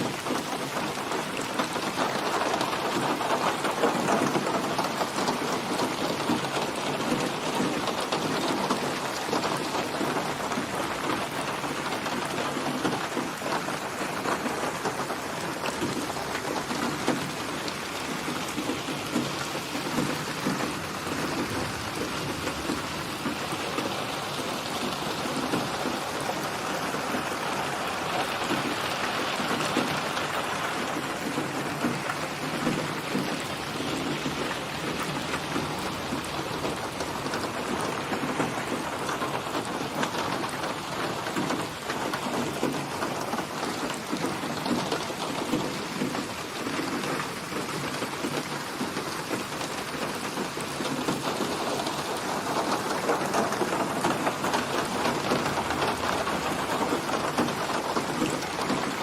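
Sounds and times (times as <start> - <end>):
heavy rain: 0.0 - 59.0
wind: 0.0 - 59.0.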